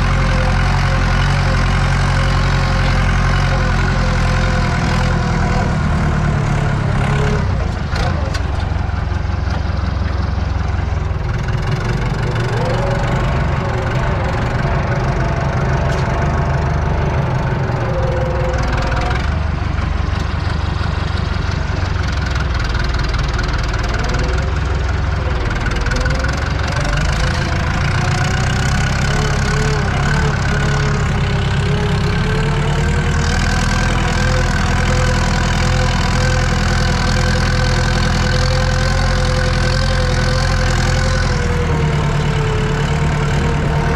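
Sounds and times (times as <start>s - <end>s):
diesel tractor engine under load: 0.0s - 43.9s.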